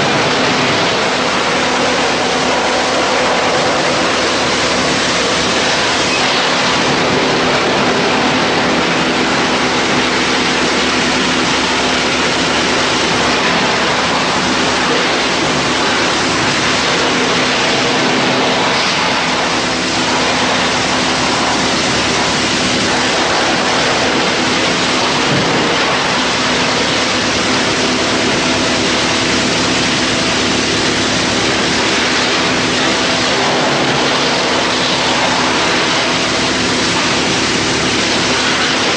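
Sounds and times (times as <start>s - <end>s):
wood chipper roaring: 0.0s - 38.9s.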